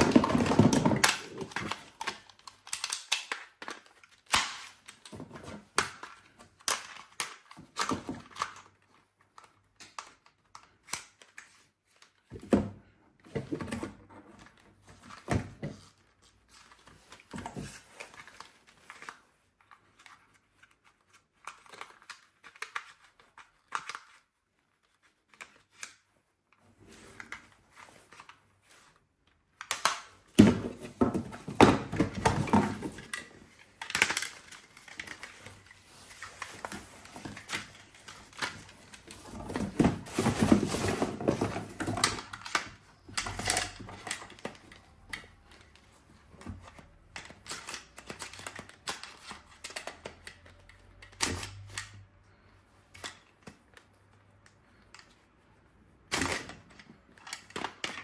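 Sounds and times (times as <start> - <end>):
toys and packaging handled: 0.0 - 58.0.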